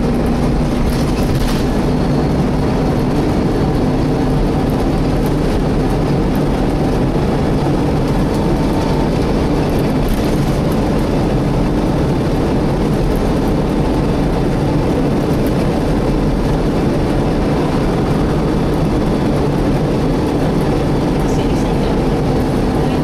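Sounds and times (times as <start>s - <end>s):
engine and road noise: 0.0s - 23.0s
engine cooling fan roar: 0.0s - 23.0s.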